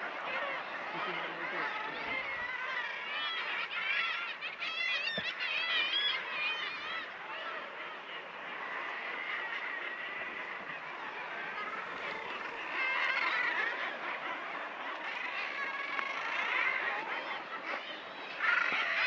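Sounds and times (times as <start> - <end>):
birds chirping and warbling: 0.0 - 19.0.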